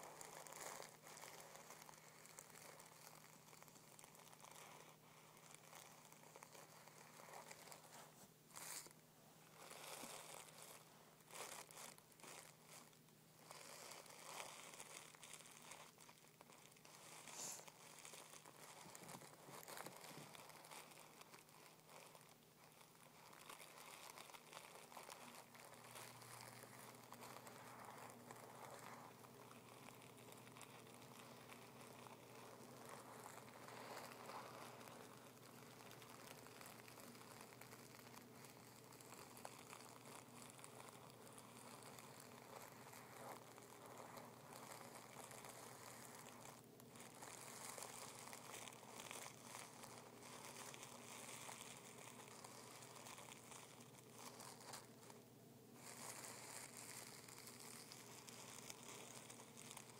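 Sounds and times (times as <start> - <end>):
tissue paper crinkling: 0.0 - 59.9.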